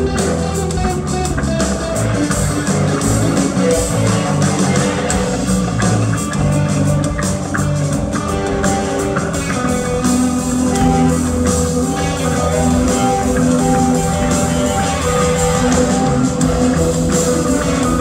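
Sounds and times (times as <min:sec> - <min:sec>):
blues-rock band playing: 0:00.0 - 0:18.0
electric guitars: 0:00.0 - 0:18.0.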